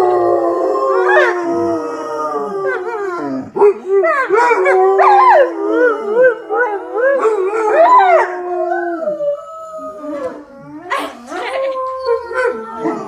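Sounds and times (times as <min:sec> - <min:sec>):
dogs howling: 0:00.0 - 0:13.0.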